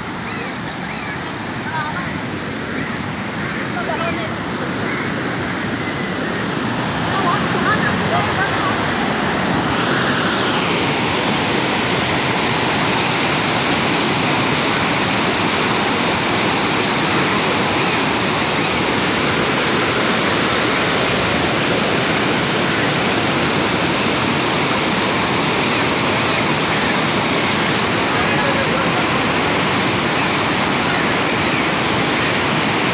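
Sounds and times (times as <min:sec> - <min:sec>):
floodwater rushing: 0:00.0 - 0:32.9.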